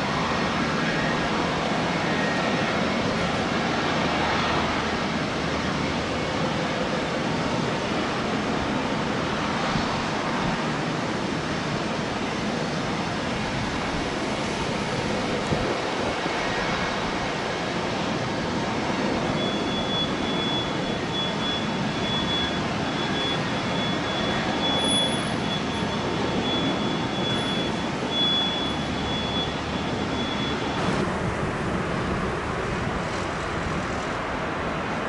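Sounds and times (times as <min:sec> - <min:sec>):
jet engine rumbling with whine: 0:00.0 - 0:35.0.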